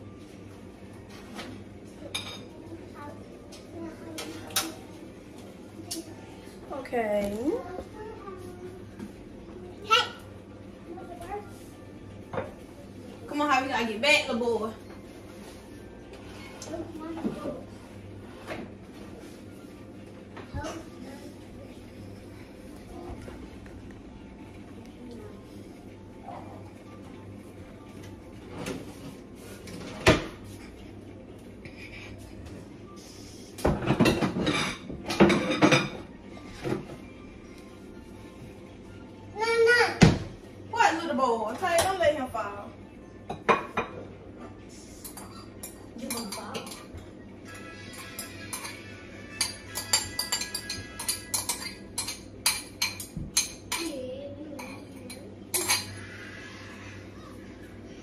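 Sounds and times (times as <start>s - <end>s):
low room hum: 0.0s - 58.0s.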